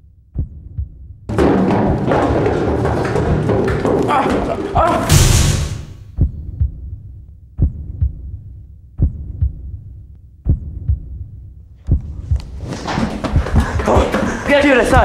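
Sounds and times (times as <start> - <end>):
heartbeat thumps: 0.3 - 15.0.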